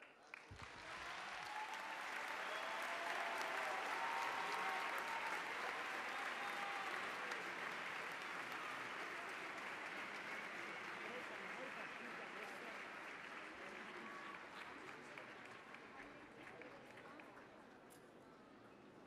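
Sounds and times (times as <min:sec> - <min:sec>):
crowd applauding: 0:00.0 - 0:17.3.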